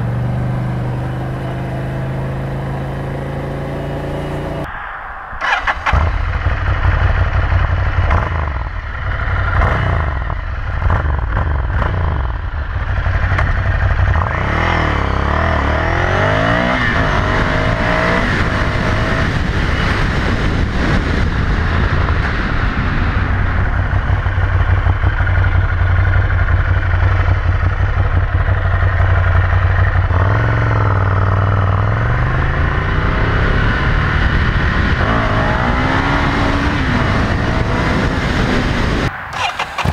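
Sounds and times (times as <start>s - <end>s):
motorcycle engine revving: 0.0s - 4.7s, 5.4s - 39.9s.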